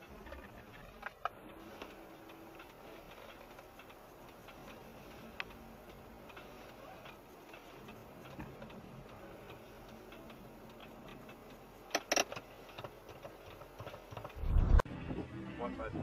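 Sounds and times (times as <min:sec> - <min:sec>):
faint steady ticking: 0:00.0 - 0:14.4.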